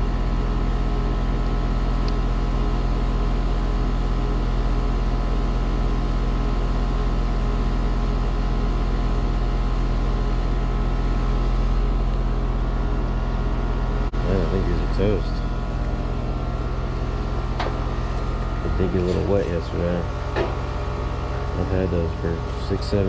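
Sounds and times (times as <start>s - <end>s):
heat pump humming: 0.0s - 23.0s.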